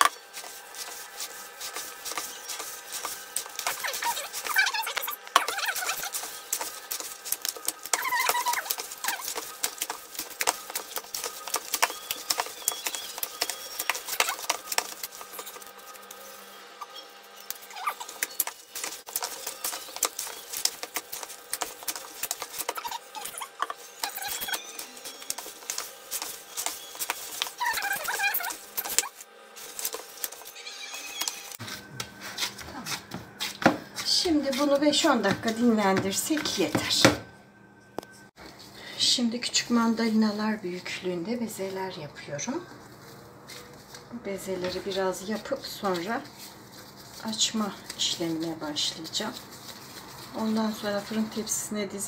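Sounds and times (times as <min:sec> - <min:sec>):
dough kneading squelches: 0:00.0 - 0:37.3, 0:38.2 - 0:52.0.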